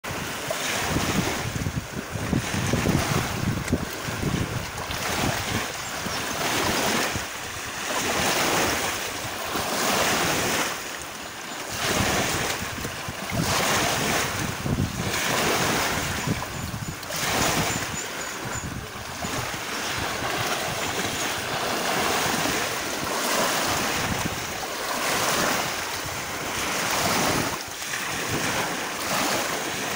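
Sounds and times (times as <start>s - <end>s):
lake waves washing: 0.0s - 29.9s
wind rumbling on microphone: 0.1s - 10.8s, 11.6s - 29.9s.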